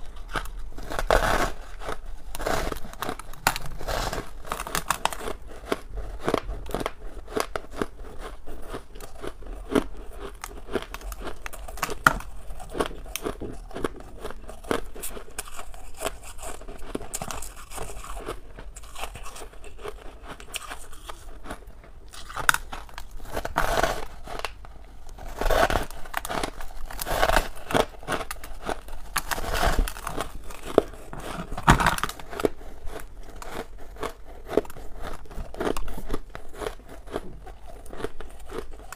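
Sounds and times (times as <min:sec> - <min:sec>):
crunching ice with teeth: 0:00.0 - 0:38.9.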